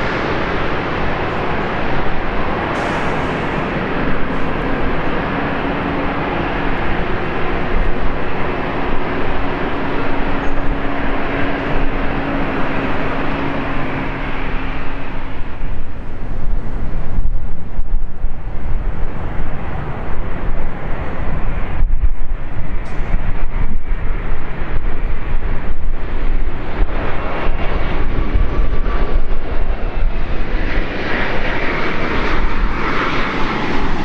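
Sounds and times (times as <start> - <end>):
high jet whine: 0.0 - 34.0
jet engines rumbling: 0.0 - 34.0.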